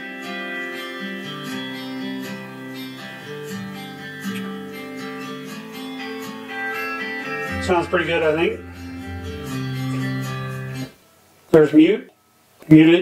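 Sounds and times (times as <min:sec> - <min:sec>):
strummed acoustic guitar music: 0:00.1 - 0:10.9.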